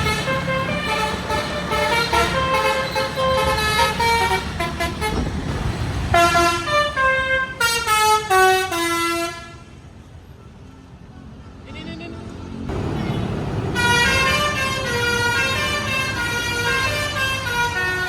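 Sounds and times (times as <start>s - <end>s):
multi-tone bus horn melody: 0.0s - 5.5s, 6.1s - 9.8s, 12.4s - 18.0s
bus engine running: 0.0s - 10.9s, 12.5s - 18.0s.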